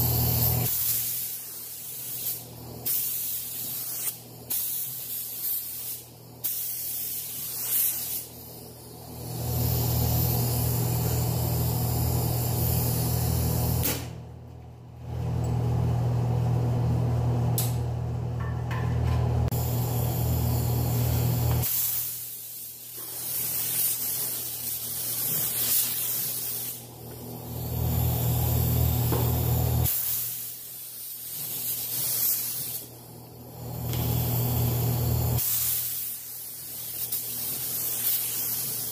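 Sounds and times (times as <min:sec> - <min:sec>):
paint spray gun hissing: 0:00.0 - 0:14.0, 0:19.5 - 0:33.0, 0:33.6 - 0:38.9.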